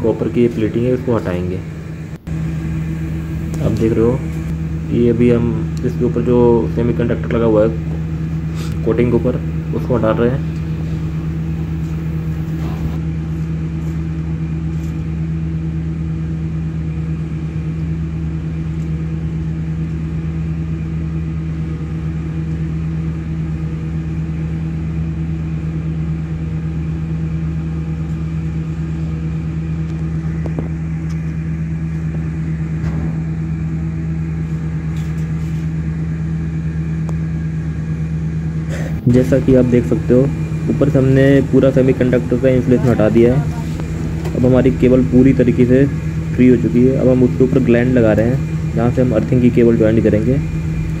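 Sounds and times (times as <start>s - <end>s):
engine droning: 0.0s - 51.0s.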